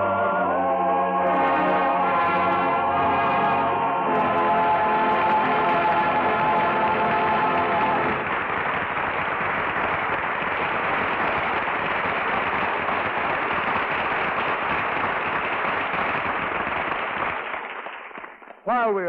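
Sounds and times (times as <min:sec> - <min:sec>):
studio audience applauding: 0:01.3 - 0:18.8.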